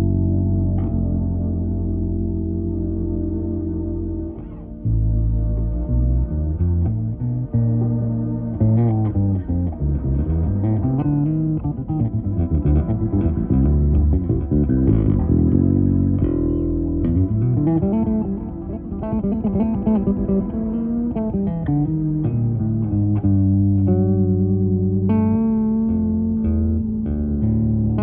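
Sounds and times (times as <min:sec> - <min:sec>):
electric bass line plucked: 0:00.0 - 0:28.0.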